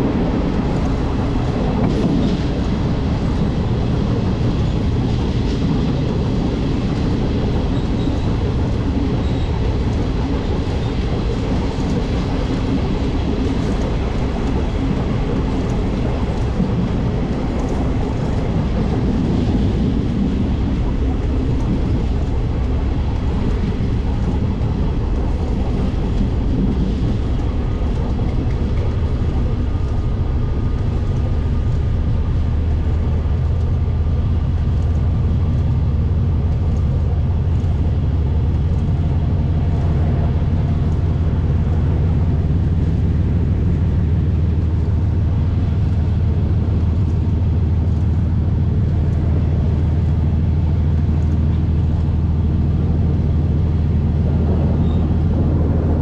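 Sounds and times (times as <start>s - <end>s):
diesel locomotive engine hum: 0.0s - 56.0s
rail running noise: 0.0s - 56.0s.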